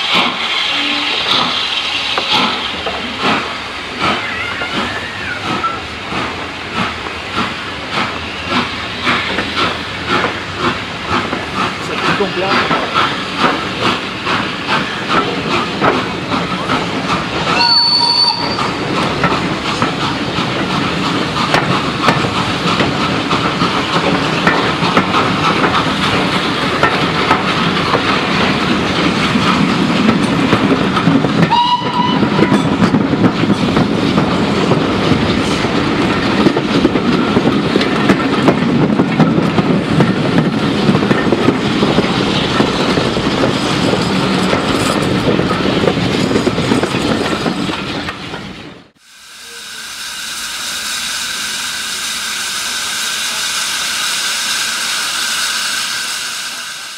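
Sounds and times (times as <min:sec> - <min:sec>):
steam train rumble: 0:00.0 - 0:56.9.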